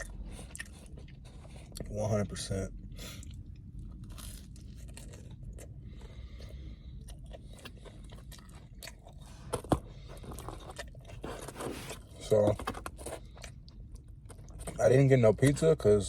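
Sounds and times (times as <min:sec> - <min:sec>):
chewing crunchy bread: 0:00.0 - 0:15.7.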